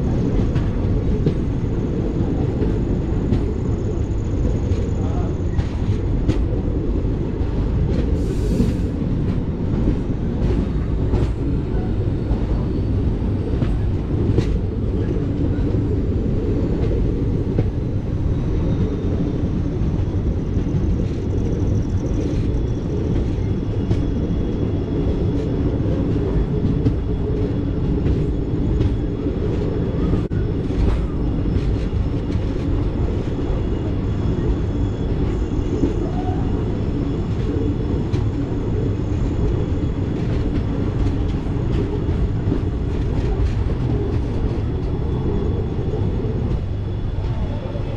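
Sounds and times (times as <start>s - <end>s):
train rumbling on track: 0.0s - 47.9s.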